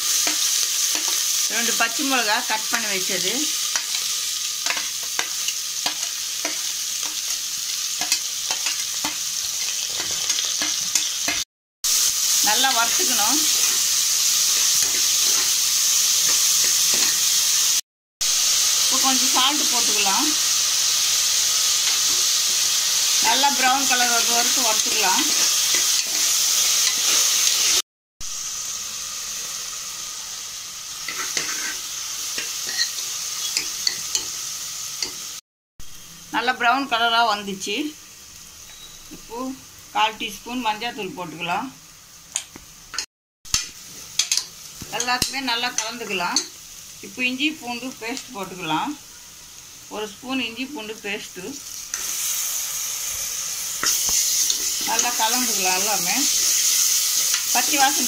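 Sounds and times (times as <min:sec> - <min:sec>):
onions sizzling in hot oil: 0:00.0 - 0:58.0.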